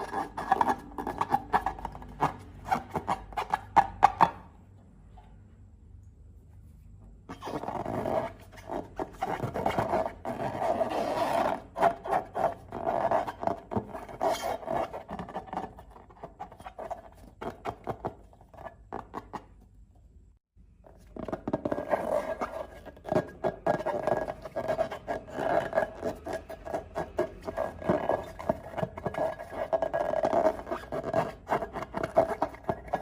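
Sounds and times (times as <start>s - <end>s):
slime and balloons rubbing: 0.0s - 4.4s, 7.3s - 19.6s, 20.9s - 33.0s.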